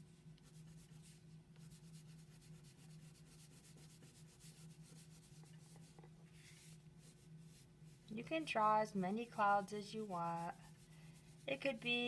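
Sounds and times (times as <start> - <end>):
low steady hum: 0.0 - 12.0
coloring scratching on paper: 0.4 - 12.0.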